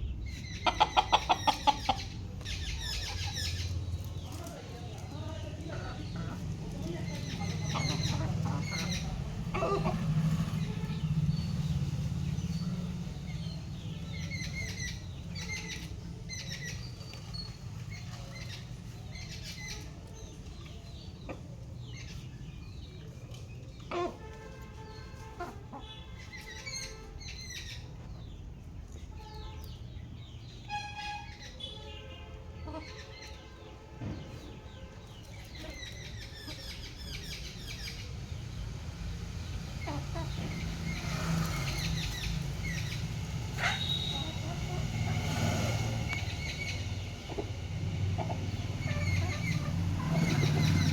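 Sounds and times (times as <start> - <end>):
chickens peeping and chirping: 0.0 - 50.9
chickens clucking: 0.3 - 28.2, 32.6 - 33.4, 34.1 - 50.9.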